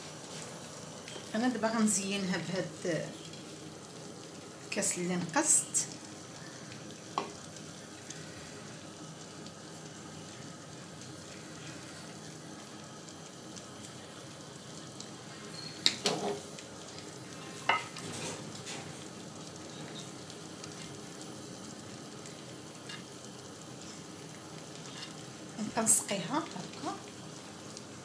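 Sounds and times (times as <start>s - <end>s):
quiet steady hiss: 0.0s - 28.0s.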